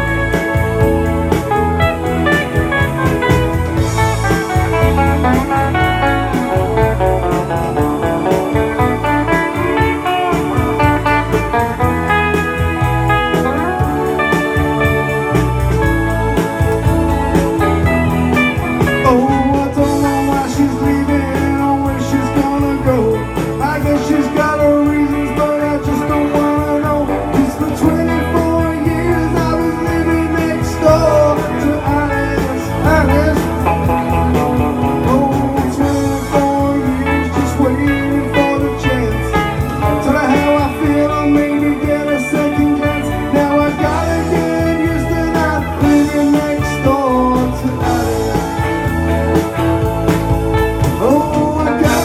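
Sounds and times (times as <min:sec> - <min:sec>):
bass and drums: 0:00.0 - 0:52.0
lead electric guitar: 0:00.0 - 0:52.0.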